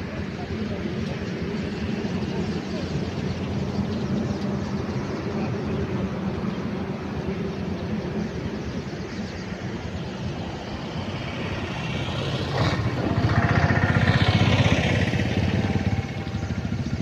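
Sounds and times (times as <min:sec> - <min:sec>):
road noise: 0:00.0 - 0:17.0
vehicle engine: 0:00.0 - 0:17.0.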